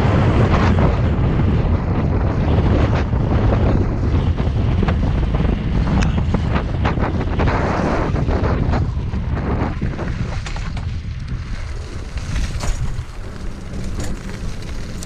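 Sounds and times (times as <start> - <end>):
deep rumble of wheels on asphalt: 0.0 - 15.0
wind buffeting microphone: 0.0 - 15.0.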